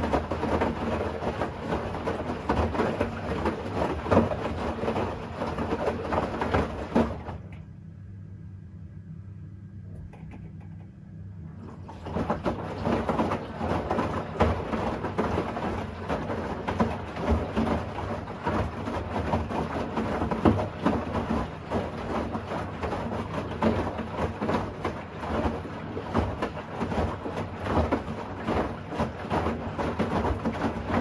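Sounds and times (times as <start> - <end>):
water sloshing in washing machine: 0.0 - 7.8, 11.4 - 31.0
low motor hum: 0.0 - 31.0.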